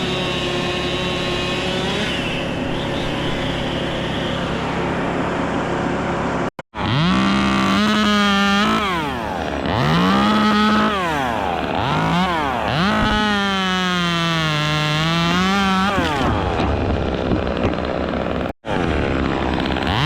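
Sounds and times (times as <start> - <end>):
chainsaw revving: 0.0 - 5.7, 6.8 - 20.0.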